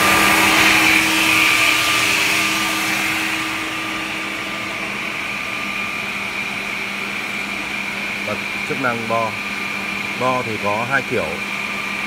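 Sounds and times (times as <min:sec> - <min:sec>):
machine motors humming and whirring: 0:00.0 - 0:12.0.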